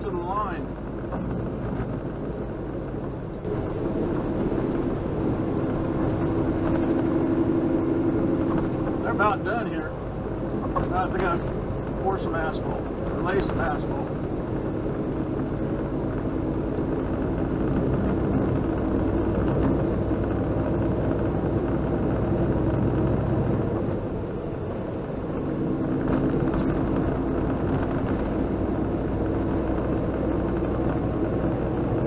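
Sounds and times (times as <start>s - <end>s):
road noise: 0.0s - 32.0s
truck diesel engine rumbling: 0.0s - 32.0s.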